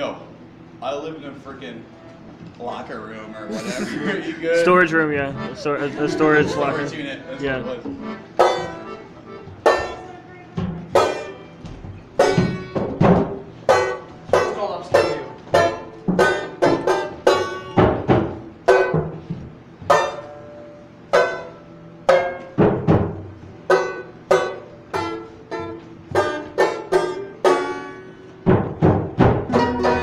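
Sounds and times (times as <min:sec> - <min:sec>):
acoustic guitar strumming: 0:04.6 - 0:30.0
banjo strumming: 0:05.3 - 0:30.0.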